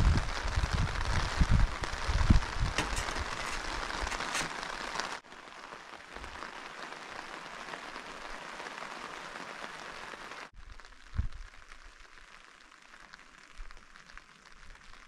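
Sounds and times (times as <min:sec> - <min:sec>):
rain pattering on tent fabric: 0:00.0 - 0:15.0.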